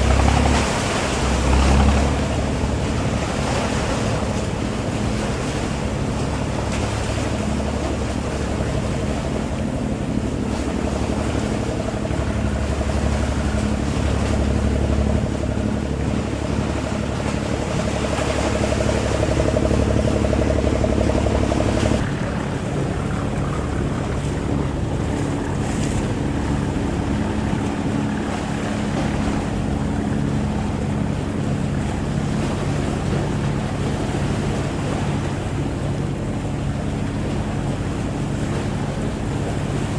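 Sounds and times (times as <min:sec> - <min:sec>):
boat engine running: 0:00.0 - 0:39.9
water noise: 0:00.0 - 0:39.9
wind: 0:00.0 - 0:39.9.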